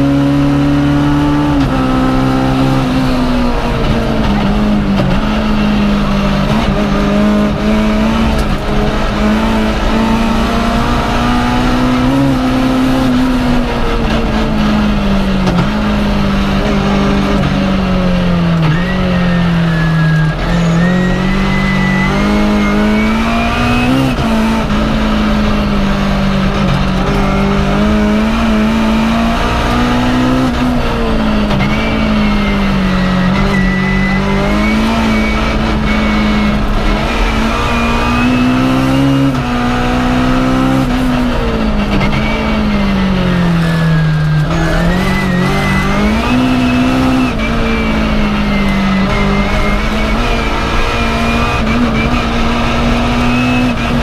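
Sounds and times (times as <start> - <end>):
rally car engine at high revs: 0.0 - 54.0.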